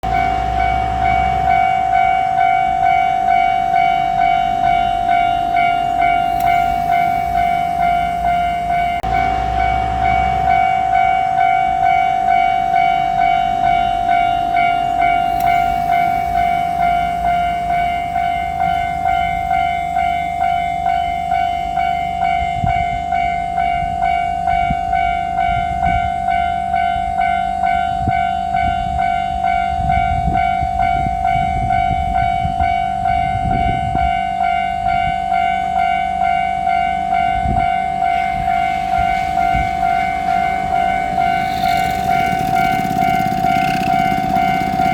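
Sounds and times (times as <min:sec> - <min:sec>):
train wheels clicking over rail joints: 0:00.0 - 0:27.3, 0:28.0 - 0:44.9
level-crossing warning bell: 0:00.0 - 0:44.9.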